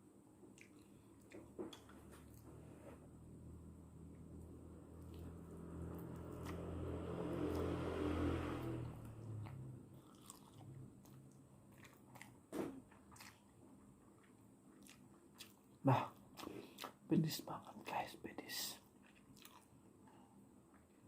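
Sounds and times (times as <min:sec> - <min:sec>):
chewing noodles: 0:00.5 - 0:02.6, 0:04.1 - 0:17.1, 0:18.9 - 0:21.0.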